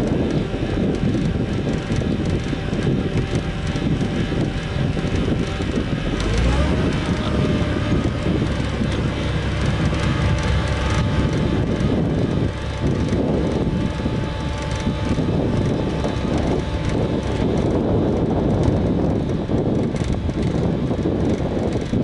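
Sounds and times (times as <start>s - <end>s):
conveyor rattling: 0.0s - 22.0s
harvester engine running: 0.0s - 22.0s.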